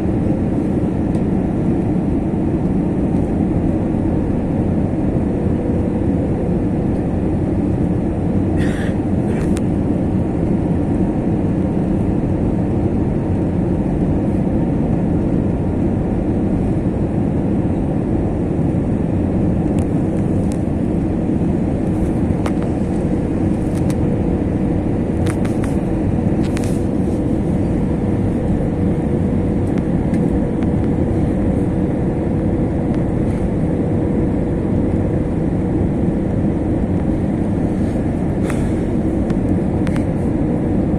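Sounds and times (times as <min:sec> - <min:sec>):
aircraft cabin engine rumble: 0:00.0 - 0:40.9
faint hum: 0:00.0 - 0:40.9.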